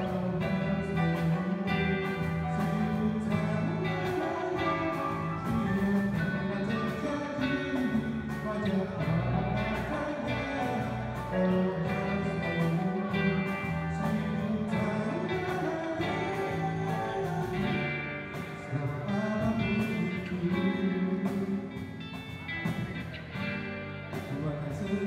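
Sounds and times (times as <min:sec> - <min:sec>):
man singing into a microphone: 0:00.0 - 0:22.0, 0:24.1 - 0:25.0
acoustic band playing pop song: 0:00.0 - 0:25.0.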